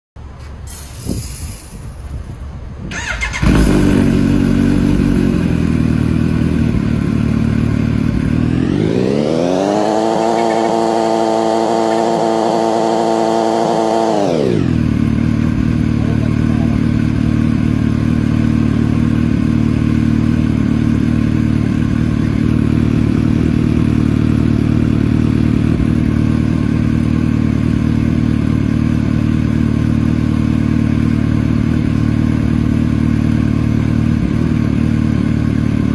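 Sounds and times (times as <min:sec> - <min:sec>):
motorcycle engine idling and revving: 0:01.6 - 0:35.9
motorcycle engine starting: 0:02.9 - 0:35.9.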